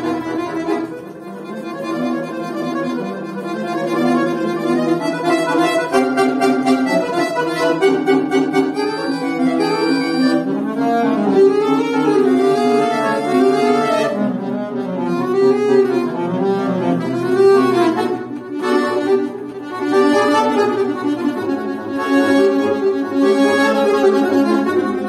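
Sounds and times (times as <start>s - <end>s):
button accordion playing fast runs: 0.0s - 25.0s.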